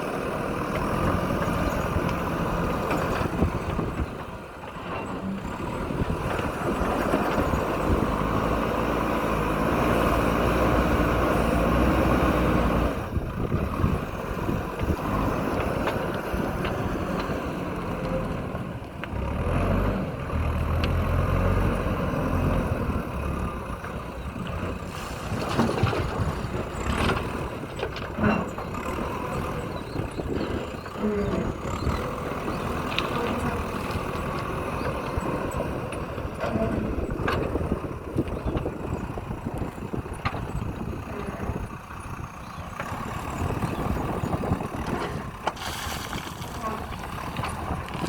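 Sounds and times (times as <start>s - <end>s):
diesel engine under load: 0.0s - 48.0s.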